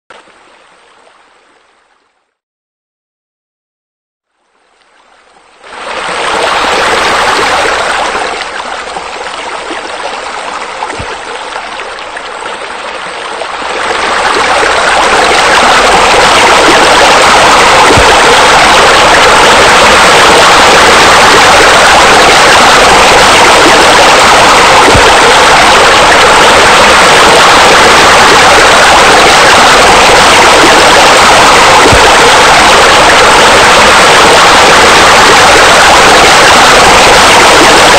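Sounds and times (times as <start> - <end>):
waterfall rushing water: 5.6 - 37.9.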